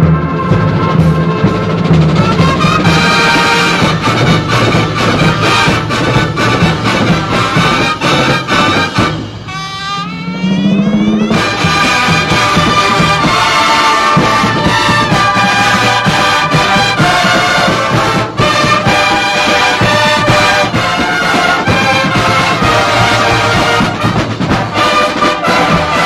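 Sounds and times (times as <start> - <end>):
bugles playing brass chords: 0.0 - 26.0
drum line strokes: 0.0 - 26.0.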